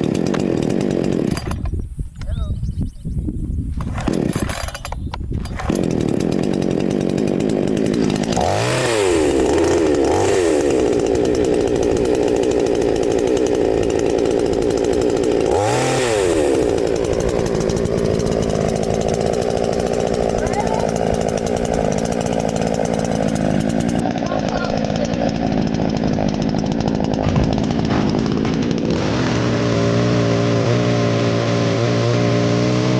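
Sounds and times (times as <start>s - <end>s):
two-stroke chainsaw running: 0.0s - 1.8s, 3.8s - 32.9s.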